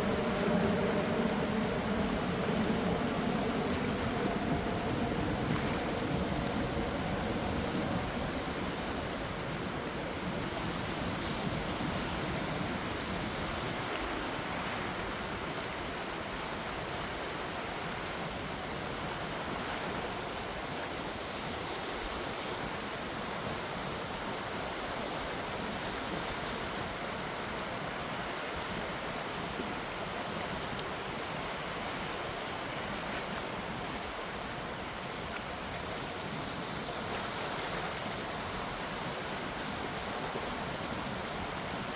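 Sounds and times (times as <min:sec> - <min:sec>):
gentle waves washing: 0:00.0 - 0:41.9.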